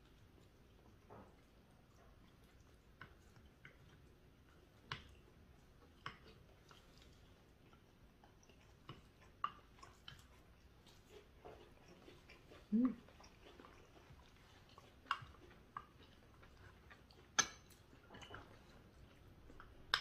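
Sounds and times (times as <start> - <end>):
faint chewing: 0.0 - 20.0.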